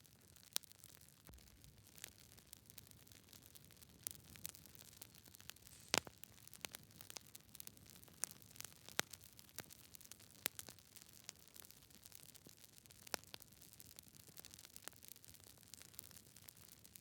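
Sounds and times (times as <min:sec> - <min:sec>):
campfire crackling: 0:00.3 - 0:16.8.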